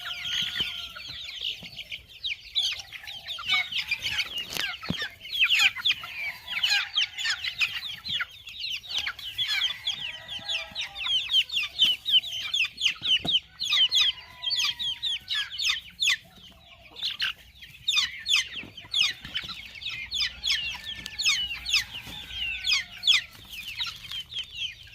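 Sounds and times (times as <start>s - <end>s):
chickens clucking and calling: 0.0s - 24.9s.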